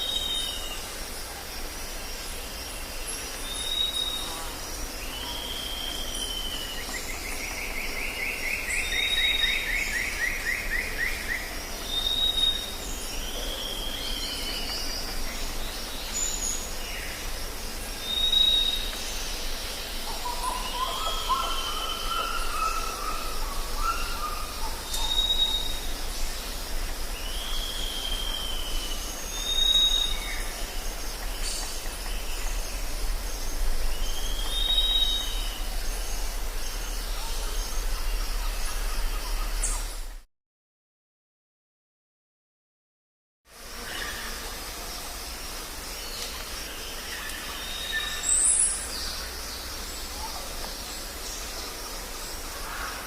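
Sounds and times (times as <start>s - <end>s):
high drone of insects: 0.0s - 40.3s, 43.5s - 53.0s.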